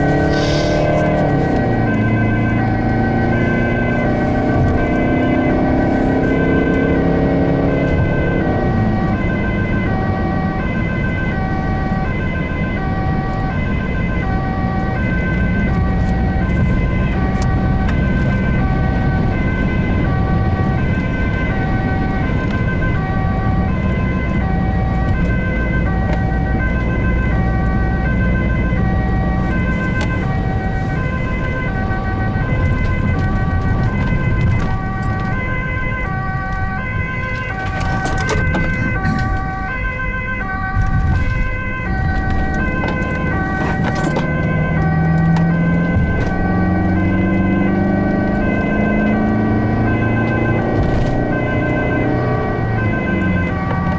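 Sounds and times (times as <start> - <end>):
engine and tyres rumbling: 0.0 - 53.9
two-tone ambulance siren: 0.0 - 53.9.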